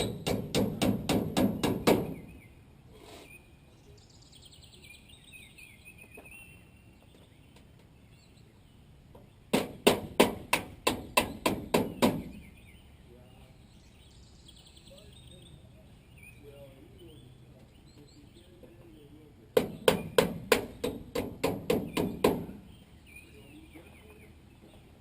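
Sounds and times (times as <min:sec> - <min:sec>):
bird chirping: 0:00.0 - 0:10.3, 0:10.9 - 0:25.0.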